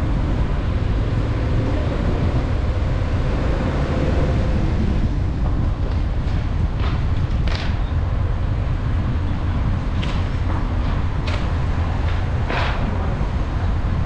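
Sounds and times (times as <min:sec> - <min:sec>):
car driving low rumble: 0:00.0 - 0:14.0
wind buffeting microphone: 0:00.0 - 0:14.0.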